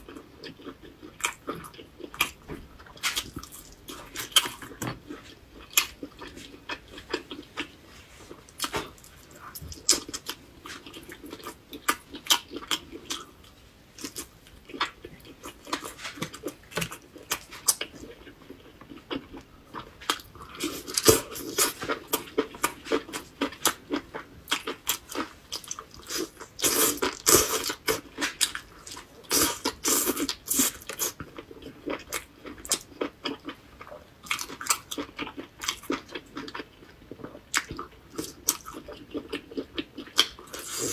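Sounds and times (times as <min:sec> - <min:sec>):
person chewing meat: 0:00.0 - 0:40.9.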